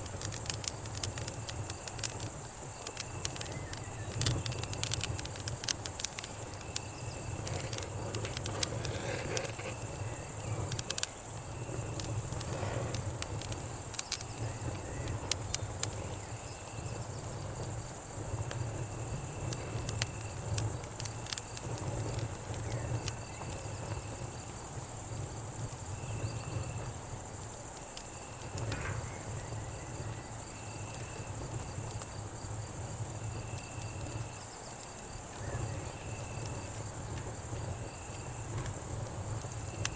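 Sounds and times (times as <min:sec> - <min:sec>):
campfire crackling: 0:00.0 - 0:39.9
cicadas and crickets chirping: 0:00.0 - 0:39.9.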